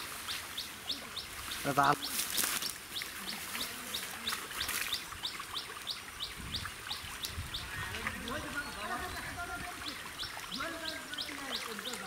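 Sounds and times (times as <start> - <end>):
bird chirping: 0.2 - 12.0.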